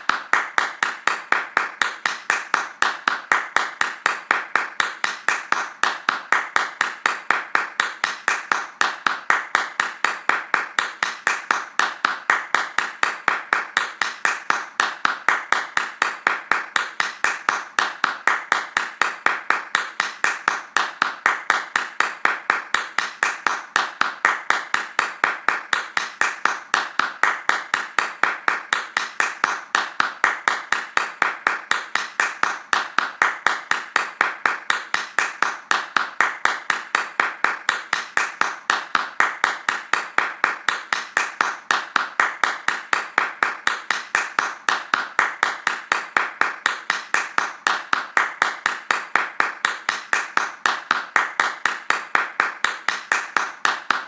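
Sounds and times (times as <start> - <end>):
hands clapping fast: 0.0 - 54.0.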